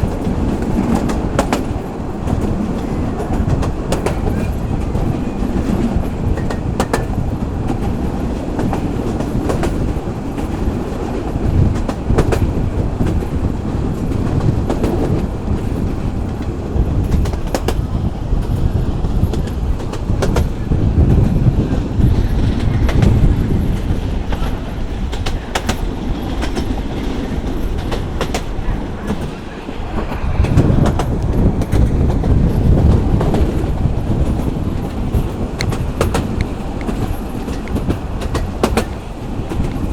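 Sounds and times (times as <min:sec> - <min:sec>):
train wheels rumbling: 0:00.0 - 0:39.9
wheels clacking on rail joints: 0:00.0 - 0:39.9.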